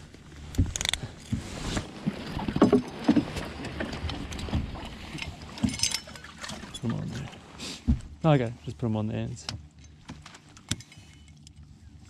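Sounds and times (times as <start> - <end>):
knocks and clatter on boat: 0.0 - 8.5, 9.2 - 11.8.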